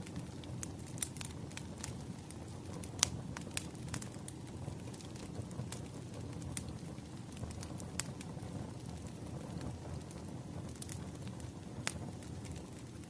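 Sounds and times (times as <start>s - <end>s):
burning logs rumbling: 0.0s - 13.0s
fire pops and snaps: 0.0s - 13.0s.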